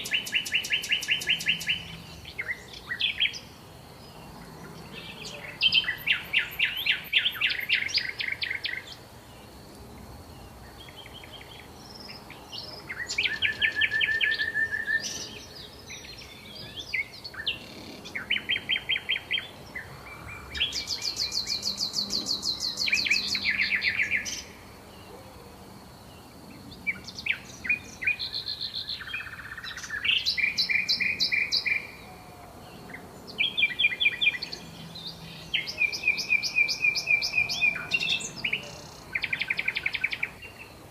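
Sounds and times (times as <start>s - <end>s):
songbirds trilling: 0.0s - 40.9s.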